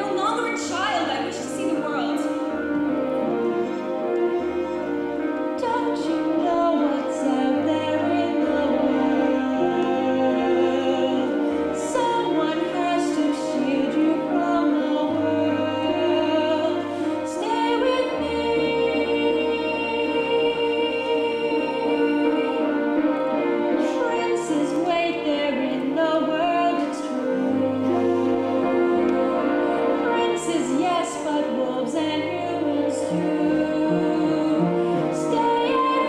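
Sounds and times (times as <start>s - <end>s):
instrumental accompaniment: 0.0s - 36.0s
woman singing: 0.0s - 36.0s.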